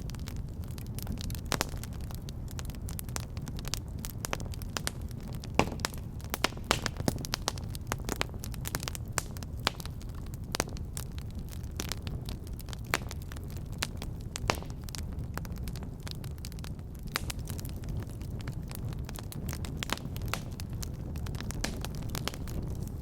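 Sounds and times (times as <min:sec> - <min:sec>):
burning wood crackling and popping: 0:00.0 - 0:23.0
fire flames rumbling: 0:00.0 - 0:23.0.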